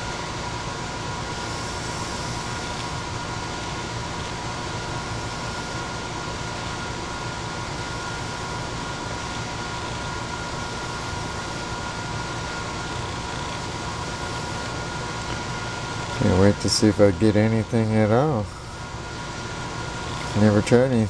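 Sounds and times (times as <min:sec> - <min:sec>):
fan whooshing: 0:00.0 - 0:21.0
steady whining tones: 0:00.0 - 0:21.0.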